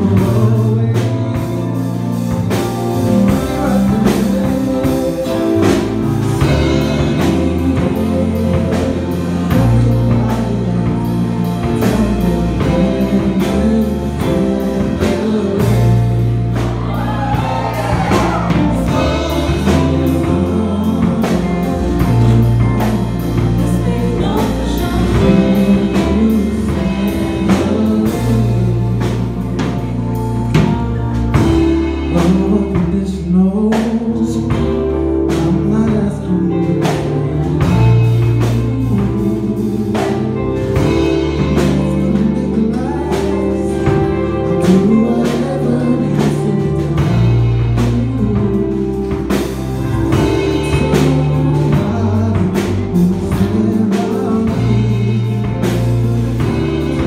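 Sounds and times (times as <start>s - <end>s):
drum kit: 0.0s - 57.0s
low sustained bass notes: 0.0s - 57.0s
vocal group singing ballad: 0.0s - 57.0s.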